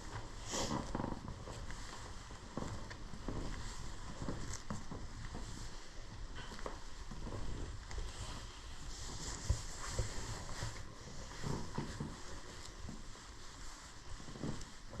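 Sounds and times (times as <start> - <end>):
footsteps: 0.1 - 15.0.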